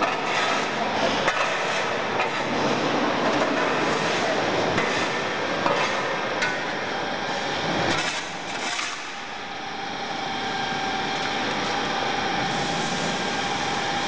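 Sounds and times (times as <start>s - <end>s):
production line machinery running: 0.0s - 14.0s.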